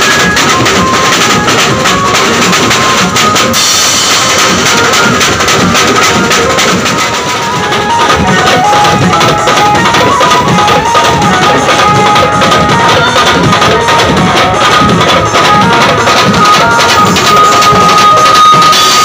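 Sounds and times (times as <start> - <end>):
banjo band playing fast music: 0.0 - 19.0
high melody of held notes: 0.0 - 19.0
rapid drumming on toms: 0.0 - 19.0.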